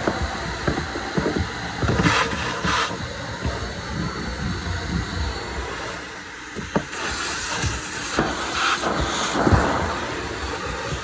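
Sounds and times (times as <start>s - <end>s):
vacuum cleaner sucking on carpet: 0.0s - 11.0s.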